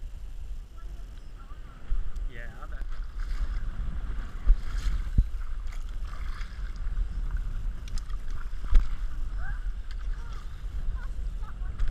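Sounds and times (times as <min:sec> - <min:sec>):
wind on microphone: 0:00.0 - 0:11.9
water lapping at hull: 0:00.9 - 0:11.9
paddle strokes splashing: 0:01.8 - 0:11.9.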